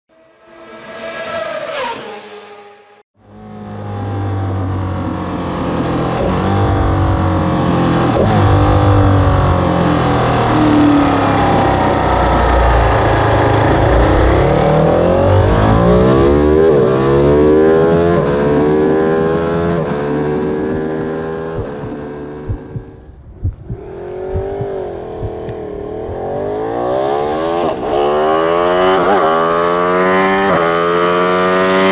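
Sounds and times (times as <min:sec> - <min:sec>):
motorcycle accelerating through gears: 0:00.4 - 0:31.9.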